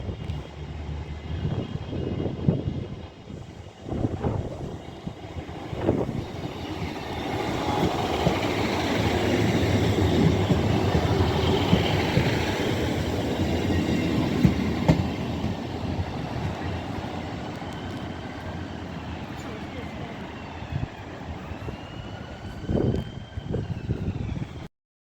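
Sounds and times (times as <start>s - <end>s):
train engine hum: 0.0s - 24.7s.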